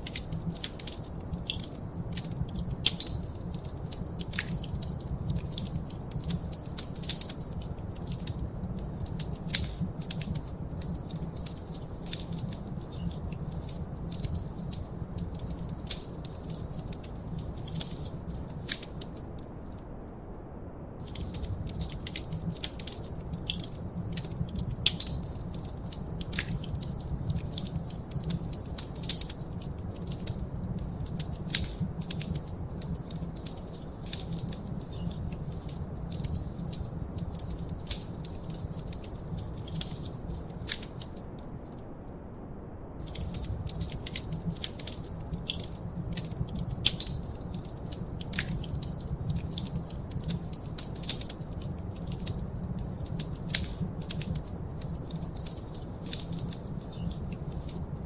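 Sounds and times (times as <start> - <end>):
fireplace wood fire crackling: 0.0 - 20.2, 21.0 - 42.2, 43.0 - 58.0.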